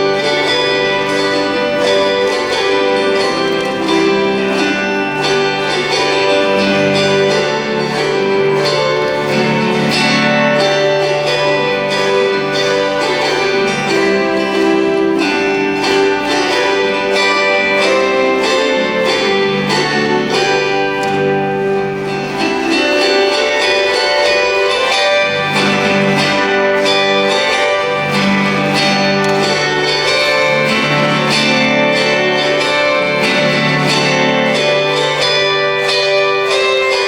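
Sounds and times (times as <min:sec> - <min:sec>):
autoharps strumming a hymn: 0:00.0 - 0:37.0.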